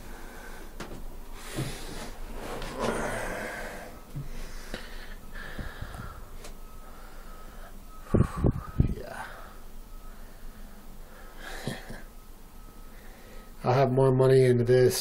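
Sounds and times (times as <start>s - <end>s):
man breathing hard: 0.0s - 12.1s.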